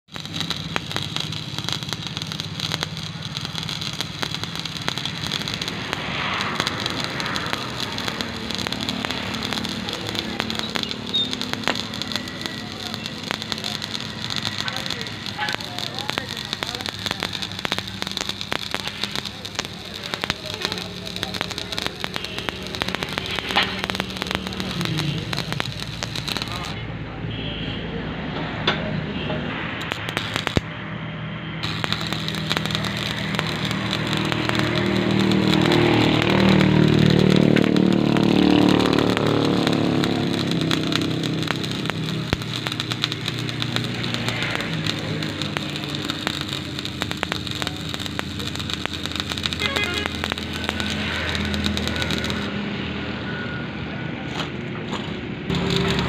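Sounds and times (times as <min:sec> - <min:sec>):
spatter pops: 0:00.0 - 0:26.8, 0:29.8 - 0:30.7, 0:31.6 - 0:52.5, 0:55.5 - 0:56.0
welding arc crackling: 0:00.0 - 0:26.8, 0:29.8 - 0:30.8, 0:31.5 - 0:53.0, 0:54.3 - 0:56.0.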